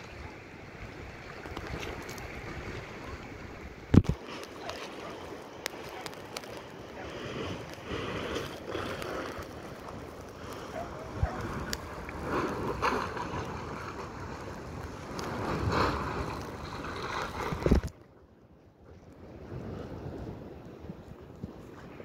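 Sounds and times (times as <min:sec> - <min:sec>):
wind buffeting microphone: 0:00.0 - 0:18.0
sea waves: 0:00.0 - 0:22.0.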